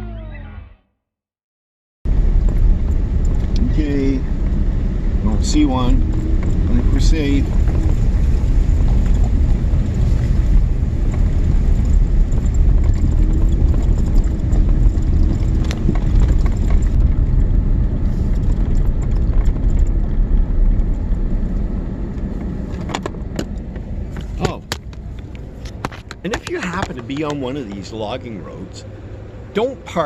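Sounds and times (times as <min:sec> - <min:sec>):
wind noise: 0:02.1 - 0:29.3
road and engine rumble: 0:02.1 - 0:30.0.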